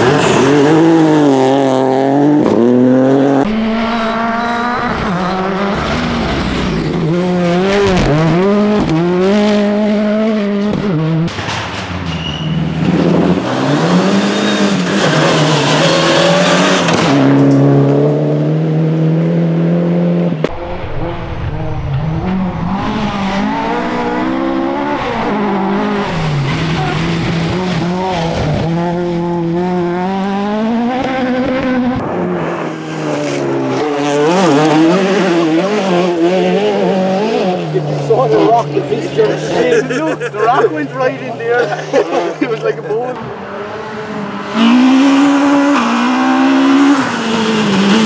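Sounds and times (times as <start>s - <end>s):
rally car engines revving: 0.0s - 48.0s.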